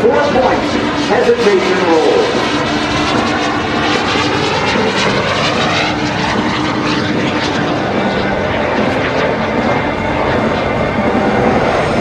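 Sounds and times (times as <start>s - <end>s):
small jet engine rushing: 0.0s - 12.0s.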